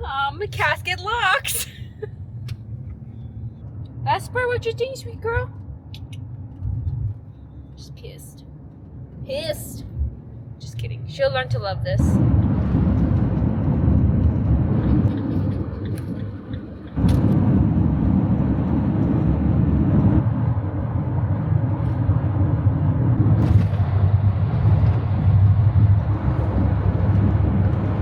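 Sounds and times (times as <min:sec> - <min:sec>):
camper van driving rumble: 0:00.0 - 0:28.0.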